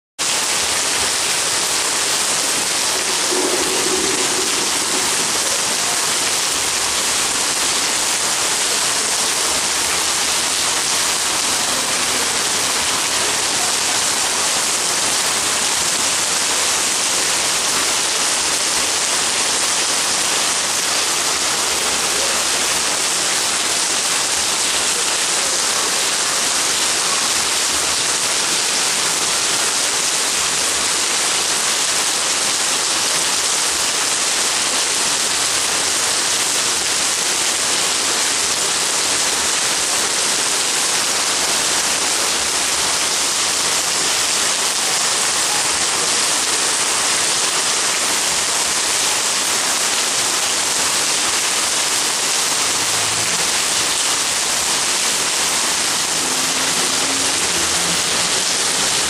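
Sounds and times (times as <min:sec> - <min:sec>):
heavy rain pouring: 0:00.2 - 0:59.0.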